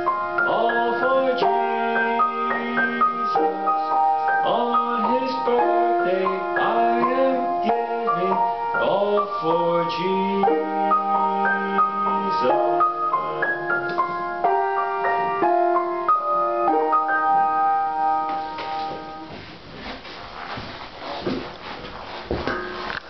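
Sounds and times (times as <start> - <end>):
piano melody: 0.0 - 20.5.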